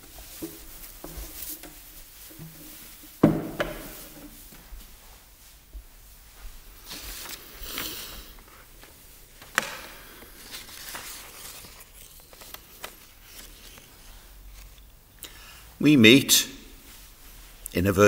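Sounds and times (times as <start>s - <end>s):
rustling and handling noises: 0.0s - 15.2s, 16.8s - 17.8s.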